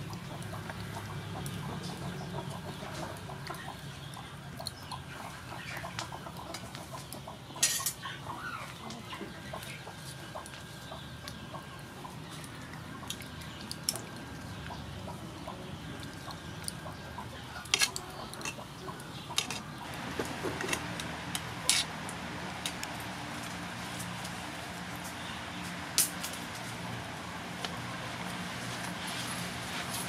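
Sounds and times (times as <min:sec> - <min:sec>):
chickens clucking: 0:00.0 - 0:25.9
water simmering with bubbling ticks: 0:00.0 - 0:29.7.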